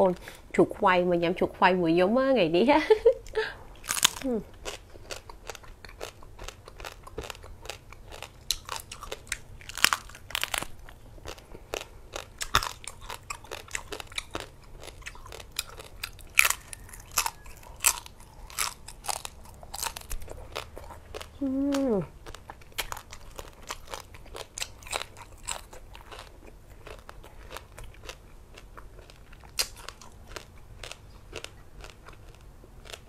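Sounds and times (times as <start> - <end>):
crunching and chewing crispy skin: 3.7 - 33.0.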